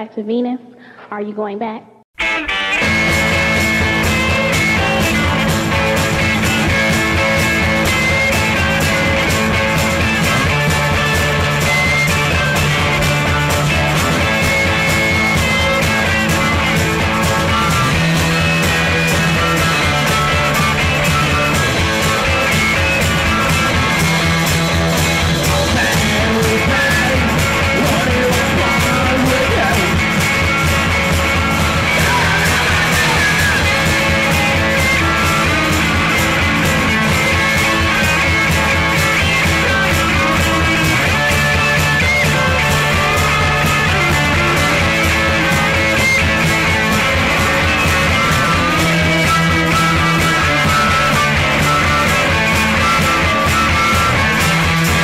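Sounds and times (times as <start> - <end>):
rock music: 2.1 - 55.0
electric guitar: 2.2 - 55.0
fast drum beat: 2.8 - 55.0.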